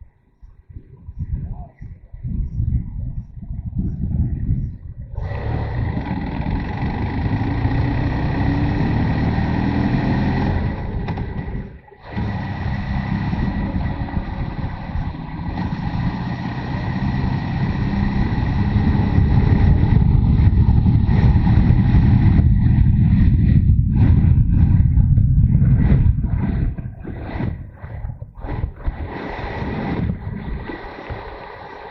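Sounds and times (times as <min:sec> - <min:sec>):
motorcycle engine rumbling: 0:01.1 - 0:29.0.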